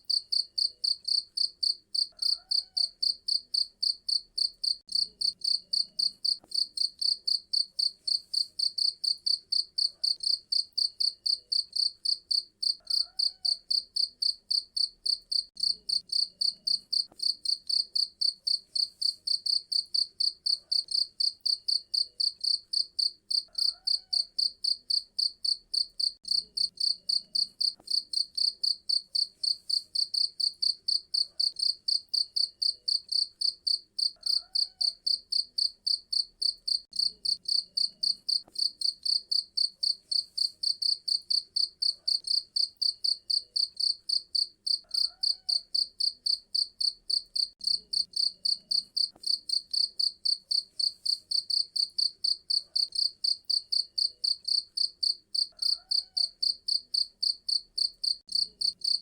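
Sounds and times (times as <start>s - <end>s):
cricket chirping: 0.1s - 59.0s.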